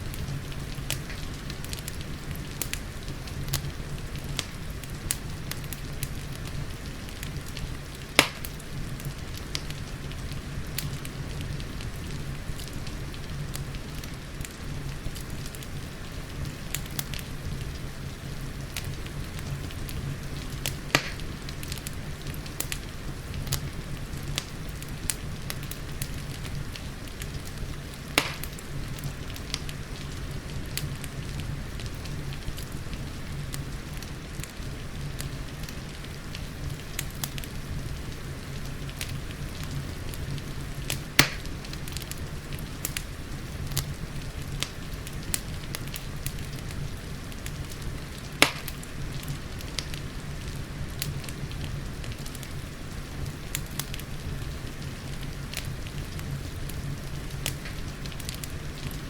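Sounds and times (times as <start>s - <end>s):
fire hiss and low rumble: 0.0s - 59.0s
loud fire pops: 0.0s - 59.0s
wood fire crackling: 0.0s - 59.0s.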